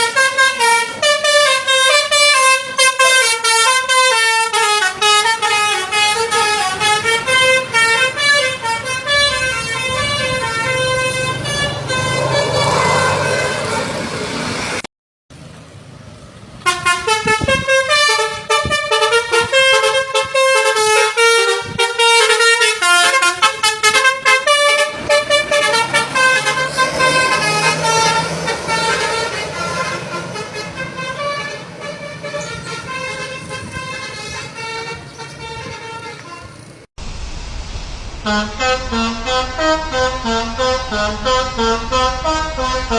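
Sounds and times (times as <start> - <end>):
multi-tone musical bus horn: 0.0 - 14.8, 16.6 - 36.9, 38.2 - 42.9
bus engine rumble: 0.0 - 42.9.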